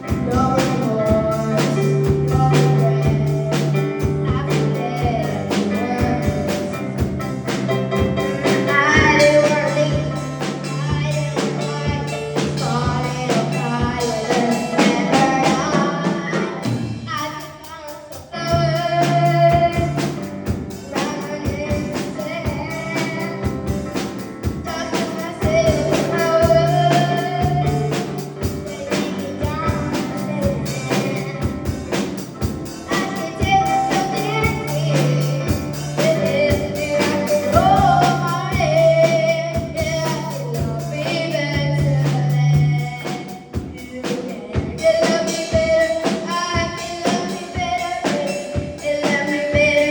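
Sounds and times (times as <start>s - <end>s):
woman singing: 0.0s - 7.0s, 7.7s - 20.1s, 20.8s - 23.6s, 24.6s - 49.9s
pop band playing: 0.0s - 49.9s.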